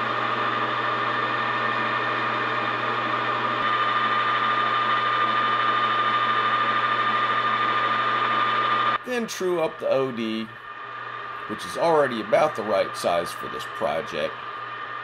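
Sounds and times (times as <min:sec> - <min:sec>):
metal lathe humming and whining: 0:00.0 - 0:15.0.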